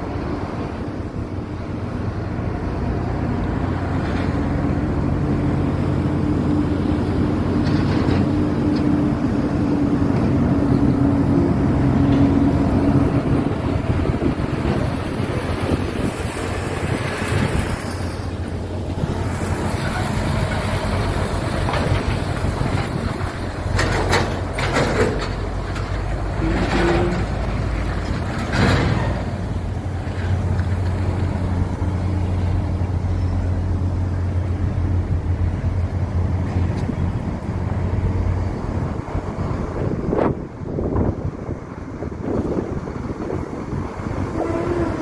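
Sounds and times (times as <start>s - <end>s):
low engine hum: 0.0s - 45.0s
outdoor noise: 0.0s - 45.0s.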